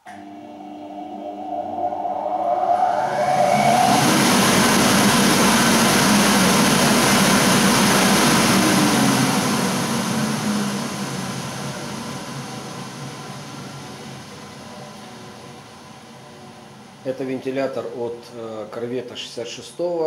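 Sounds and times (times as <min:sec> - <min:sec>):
blower rushing air: 0:00.0 - 0:17.1.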